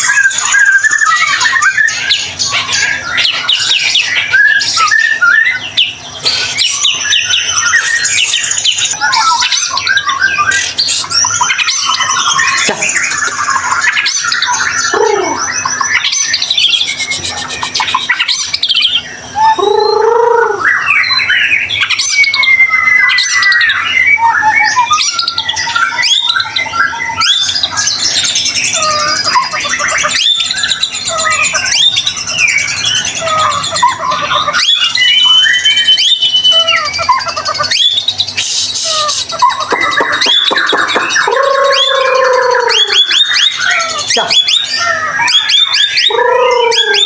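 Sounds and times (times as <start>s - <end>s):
songbird whistles and trills: 0.0s - 47.0s.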